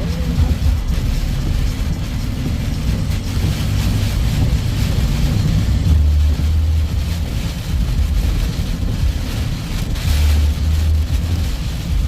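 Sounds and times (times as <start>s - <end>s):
continuous low rumble: 0.0s - 12.0s
heavy rain hissing: 0.0s - 12.0s.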